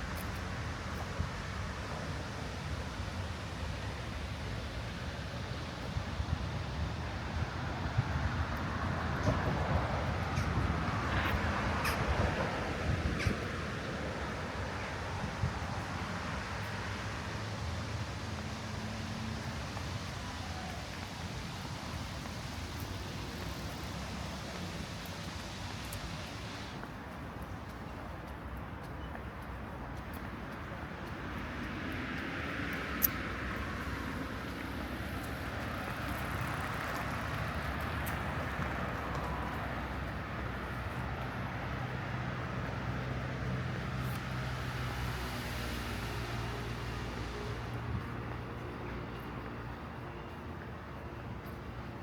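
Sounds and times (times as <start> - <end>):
even city noise: 0.0 - 52.0
road traffic noise: 0.0 - 52.0
vehicle engine hum: 0.0 - 52.0.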